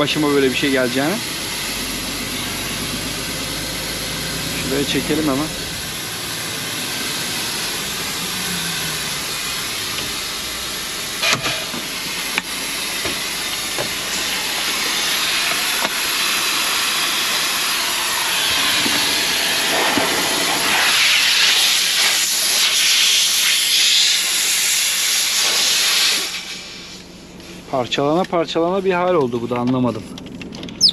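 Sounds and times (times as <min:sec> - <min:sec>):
compressed air hissing: 0:00.0 - 0:27.8.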